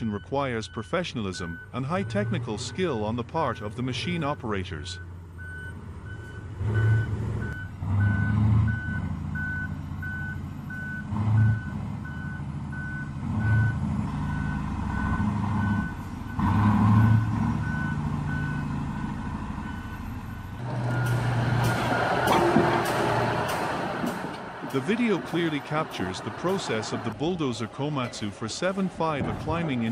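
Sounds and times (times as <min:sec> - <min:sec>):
truck reversing alarm beeping: 0:00.0 - 0:27.2
diesel engine drone: 0:00.0 - 0:29.9.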